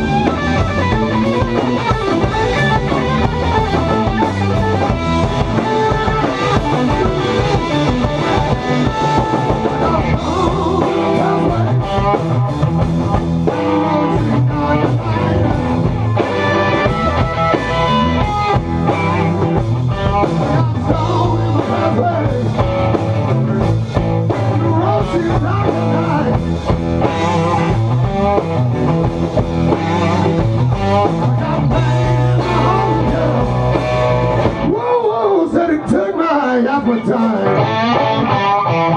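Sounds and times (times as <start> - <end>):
blues-rock band playing: 0.0 - 38.9.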